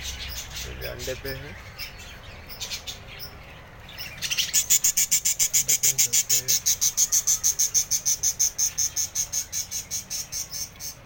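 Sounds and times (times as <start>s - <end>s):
chicks chirping rapidly: 0.0s - 11.0s.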